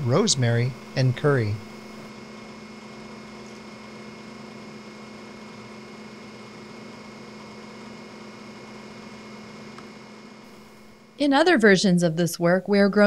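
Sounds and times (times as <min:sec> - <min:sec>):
water pump humming: 0:00.0 - 0:11.2.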